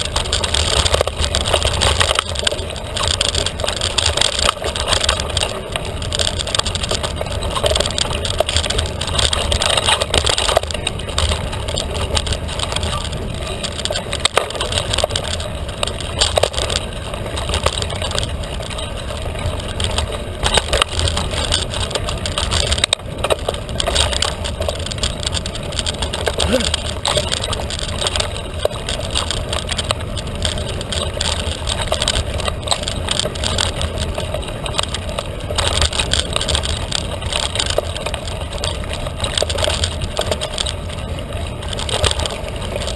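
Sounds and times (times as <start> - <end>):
bike rattling and clicking: 0.0 - 42.9
steady low rumble: 0.0 - 42.9
tyres crunching on trail: 0.0 - 42.9.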